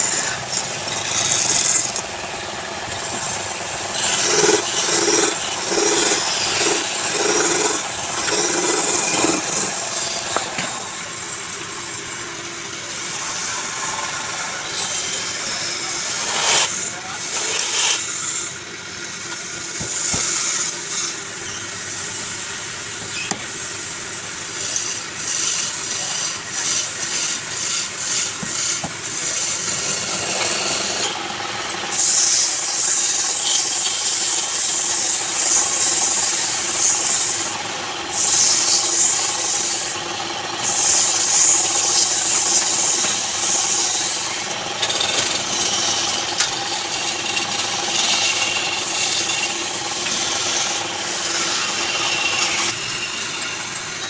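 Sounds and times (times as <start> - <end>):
lathe tool scraping wood: 0.0 - 22.4, 24.4 - 54.0
steady motor tone: 0.0 - 54.0.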